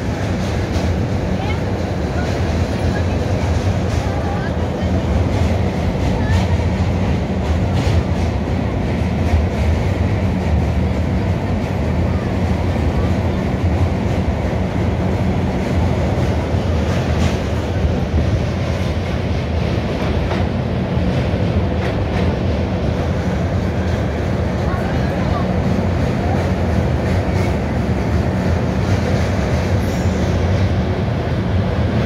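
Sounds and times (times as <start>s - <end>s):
train wheels rumbling on bridge: 0.0s - 32.0s.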